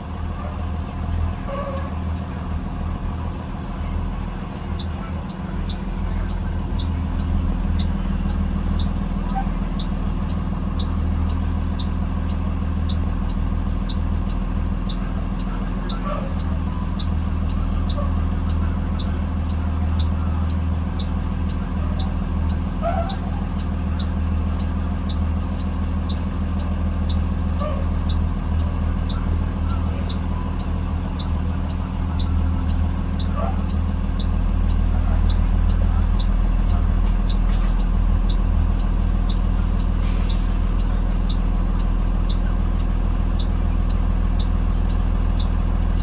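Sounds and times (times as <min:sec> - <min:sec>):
bus engine and road drone: 0:00.0 - 0:46.0
light regular ticking: 0:00.0 - 0:46.0.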